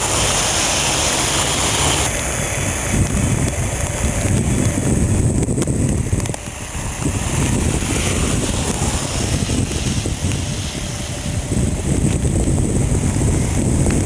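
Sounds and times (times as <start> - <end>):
airliner taxiing rumble: 0.0 - 14.0
wind buffeting microphone: 0.0 - 14.0.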